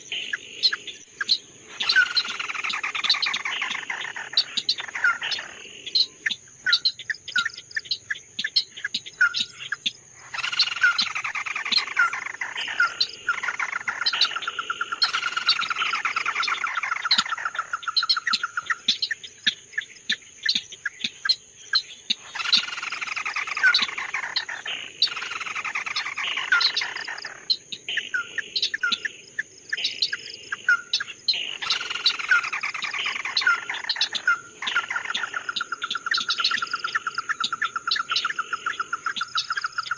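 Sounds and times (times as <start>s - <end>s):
songbird singing rapid phrases: 0.0s - 39.9s.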